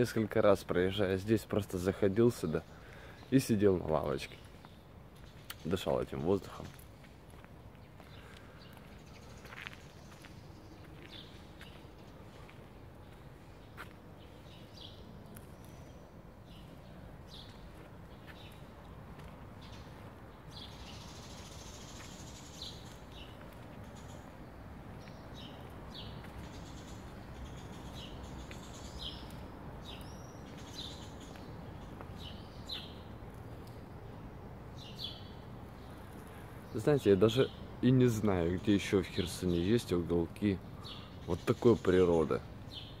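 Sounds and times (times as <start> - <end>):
low background noise: 0.0 - 43.0
small birds chirping: 0.0 - 43.0.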